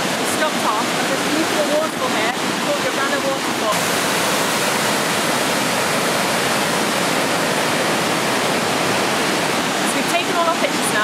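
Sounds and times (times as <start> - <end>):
waterfall rushing over boulders: 0.0 - 11.0.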